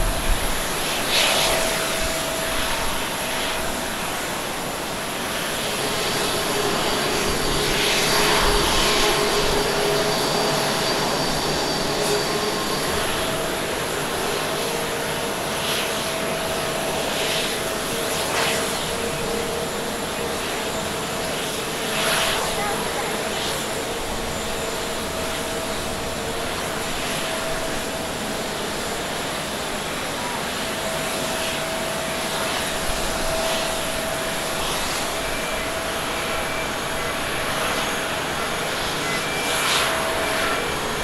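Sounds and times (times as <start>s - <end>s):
jet engines idling: 0.0s - 41.0s.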